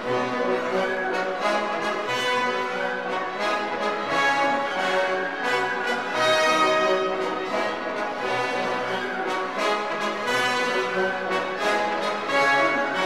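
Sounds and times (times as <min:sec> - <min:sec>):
orchestral music with brass: 0:00.0 - 0:13.0.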